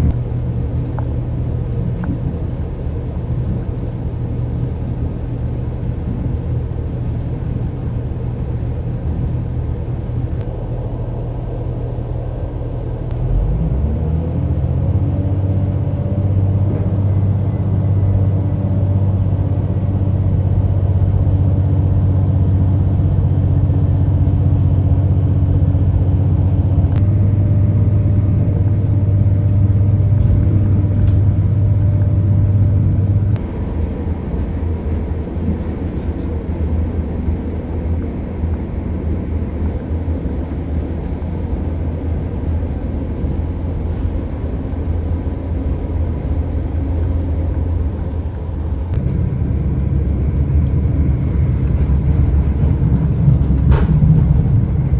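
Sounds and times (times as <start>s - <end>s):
engine hum: 0.0s - 54.9s
train low rumble: 0.0s - 54.9s.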